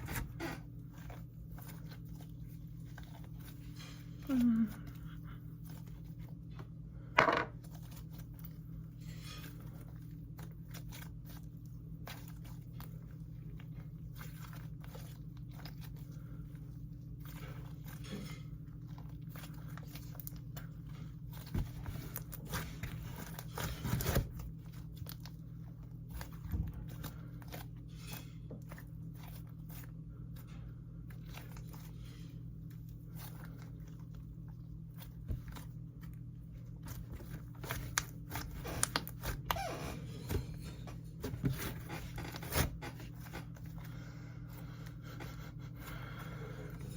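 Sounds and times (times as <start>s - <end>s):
hands squishing slime: 0.0s - 7.0s, 7.6s - 46.9s
steady low hum: 0.0s - 46.9s.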